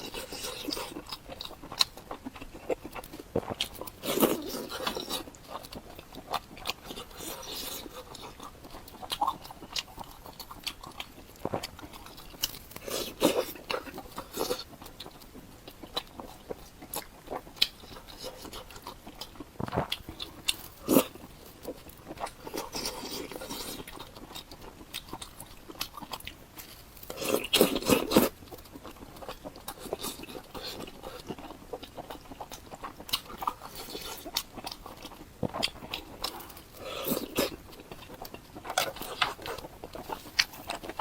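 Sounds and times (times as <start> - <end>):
person biting and chewing: 0.0 - 41.0.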